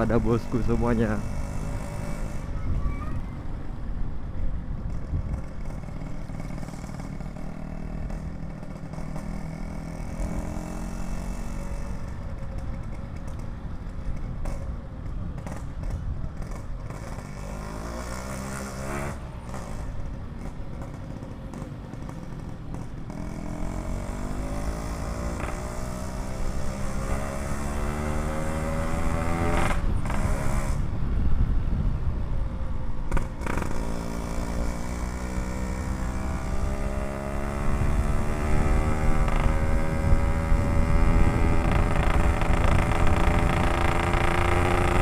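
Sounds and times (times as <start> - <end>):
two-stroke motorcycle engine accelerating: 0.0 - 2.4, 4.9 - 14.7, 15.3 - 31.4, 33.1 - 45.0.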